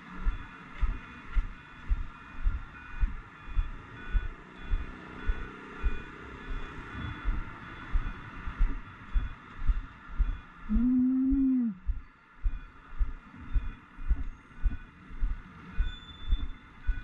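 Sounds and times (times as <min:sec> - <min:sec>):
hum-like tone: 0:00.0 - 0:17.0.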